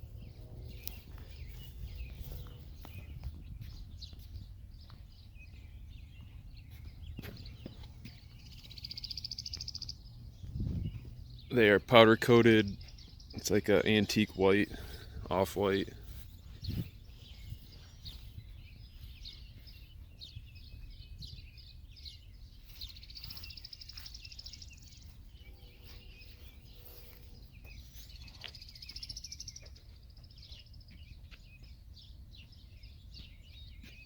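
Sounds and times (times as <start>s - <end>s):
birds chirping and trilling: 0.0s - 34.0s.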